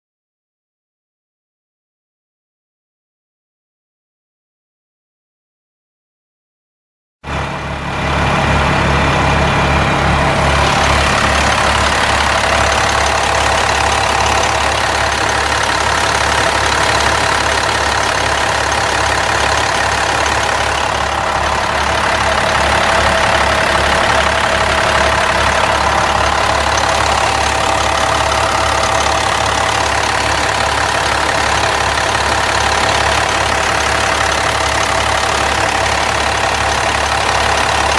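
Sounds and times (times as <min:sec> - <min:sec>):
diesel engine idling: 0:07.3 - 0:37.9.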